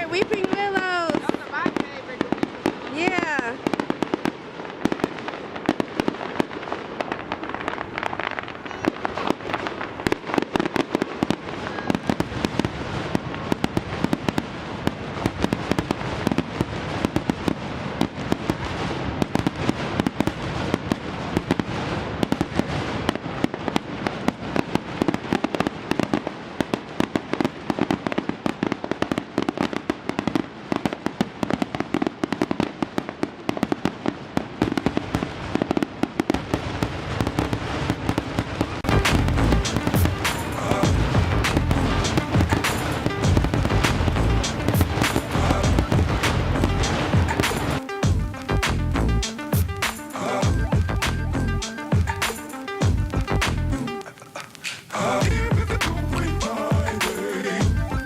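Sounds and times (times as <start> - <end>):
loud firework bangs: 0.0 - 51.1
fireworks popping and crackling: 0.0 - 58.0.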